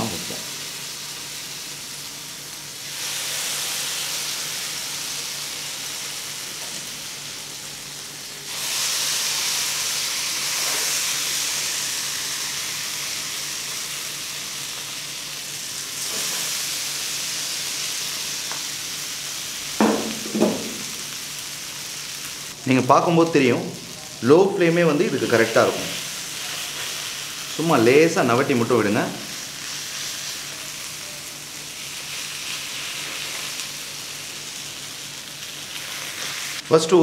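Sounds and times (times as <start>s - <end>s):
food sizzling in hot oil: 0.0s - 22.6s, 23.2s - 36.7s.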